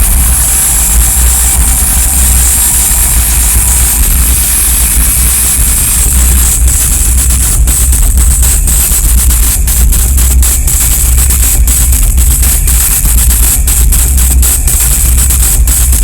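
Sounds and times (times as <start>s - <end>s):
fast pulsing beat: 0.0s - 16.0s
heavy droning bass: 0.0s - 16.0s
hiss of noise: 0.0s - 16.0s.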